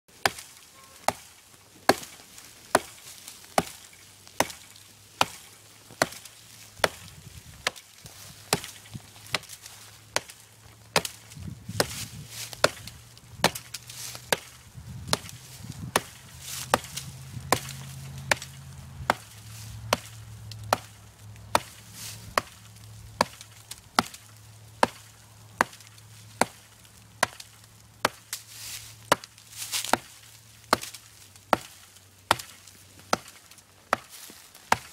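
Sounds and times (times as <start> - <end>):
axe chopping tree trunk: 0.2 - 34.9.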